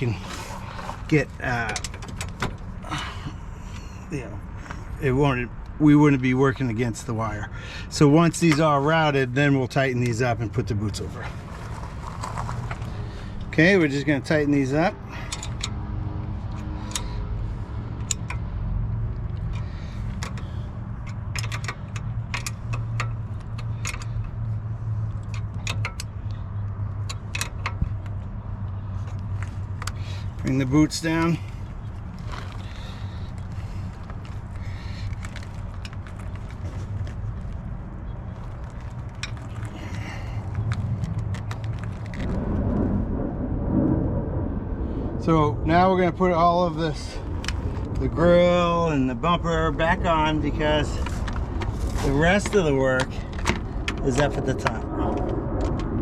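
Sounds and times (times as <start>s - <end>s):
low engine rumble: 0.0s - 56.0s
steady low hum: 9.0s - 56.0s.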